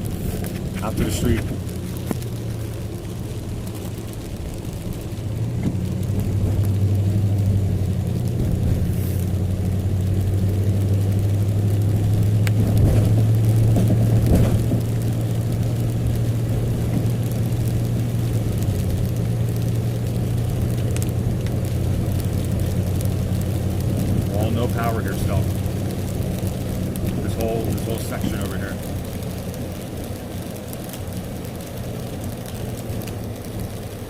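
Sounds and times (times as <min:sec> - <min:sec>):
van engine and road noise: 0:00.0 - 0:34.0.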